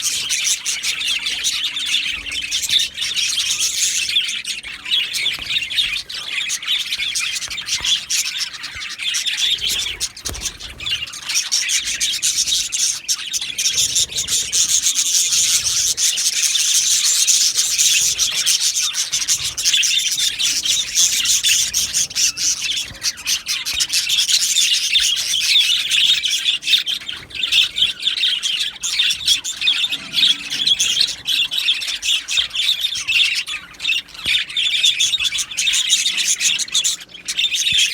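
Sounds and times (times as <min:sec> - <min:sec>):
budgerigars chirping and chattering: 0:00.0 - 0:37.9.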